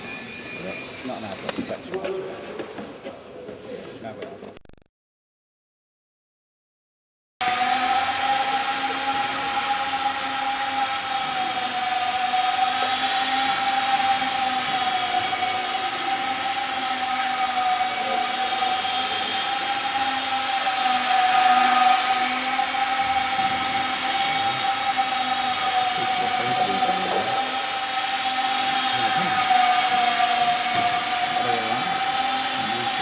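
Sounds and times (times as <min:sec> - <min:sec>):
model plane motor whining: 0:00.0 - 0:03.0, 0:07.4 - 0:33.0.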